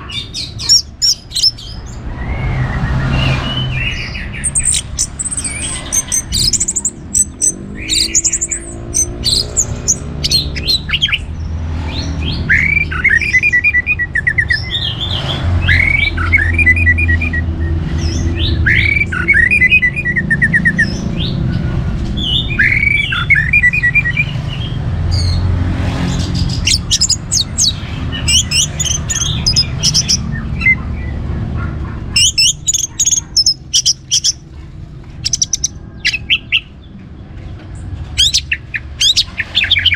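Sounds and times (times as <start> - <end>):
high bird chirps: 0.0 - 31.2, 32.1 - 34.5, 35.2 - 36.9, 37.8 - 39.9
thrush singing: 0.0 - 34.5, 38.2 - 39.9.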